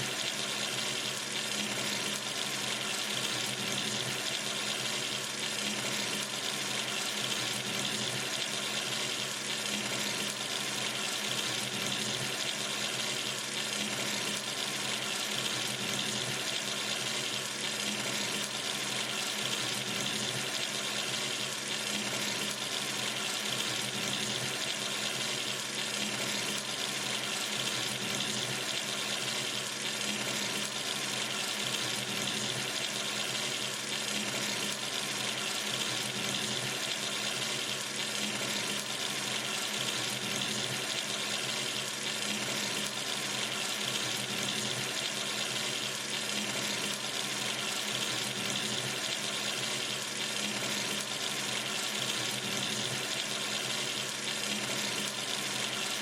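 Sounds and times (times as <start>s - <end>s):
water running from a tap: 0.0s - 56.0s.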